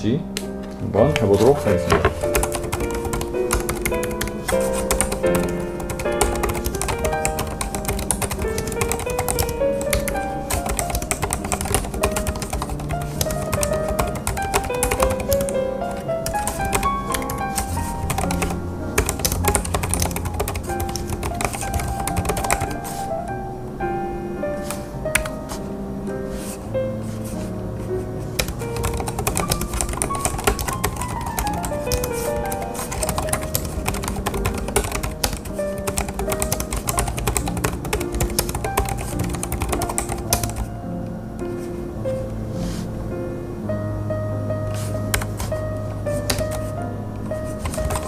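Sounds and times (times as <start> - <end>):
background music: 0.0 - 48.0.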